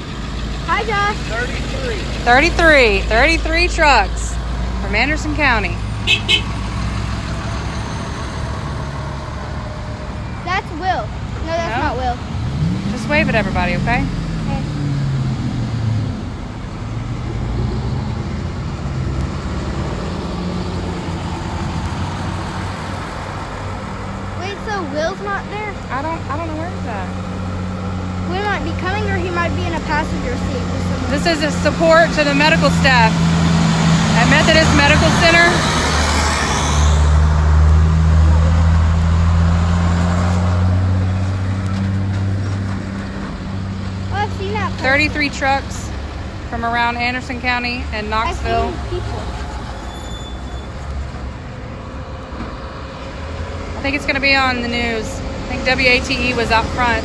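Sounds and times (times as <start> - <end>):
tow truck engines humming: 0.0 - 57.0.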